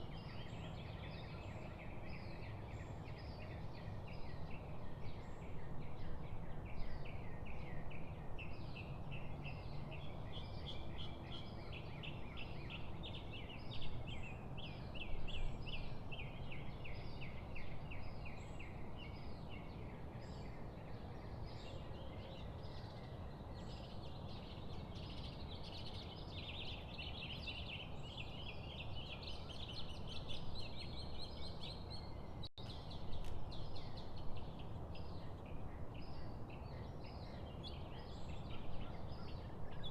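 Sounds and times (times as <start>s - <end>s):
songbirds singing and chattering: 0.0s - 39.9s.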